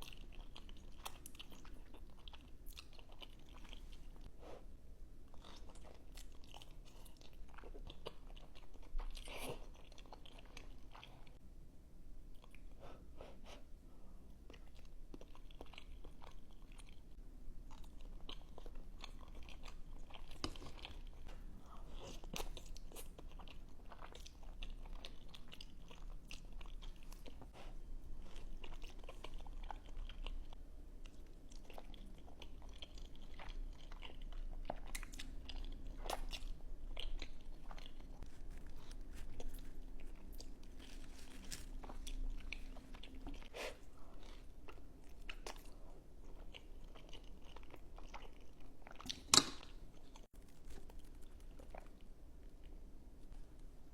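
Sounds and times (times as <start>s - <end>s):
person chewing crunchy food: 0.0s - 4.6s, 5.3s - 11.4s, 14.4s - 53.8s.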